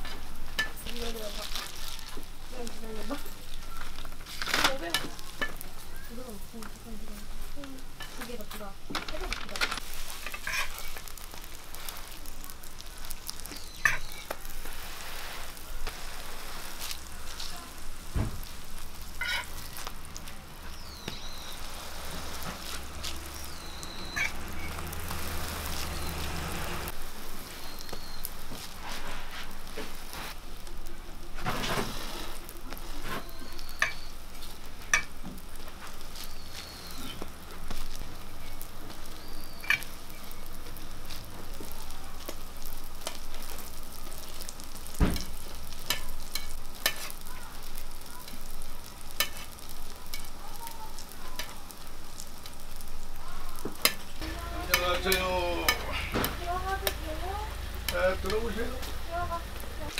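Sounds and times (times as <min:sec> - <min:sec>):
food sizzling on a griddle: 0:00.0 - 0:59.9.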